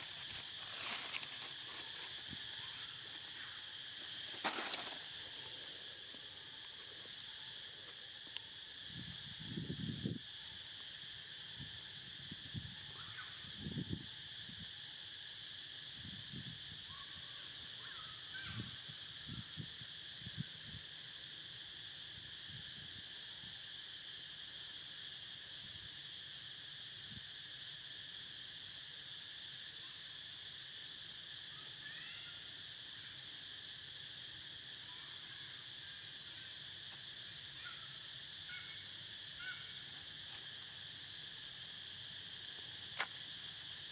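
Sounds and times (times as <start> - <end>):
insect chorus trilling: 0.0 - 43.9.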